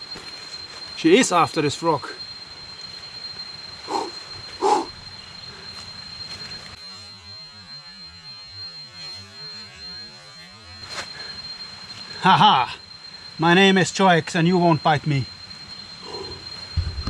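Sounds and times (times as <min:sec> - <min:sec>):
high-pitched insect tone: 0:00.0 - 0:17.0.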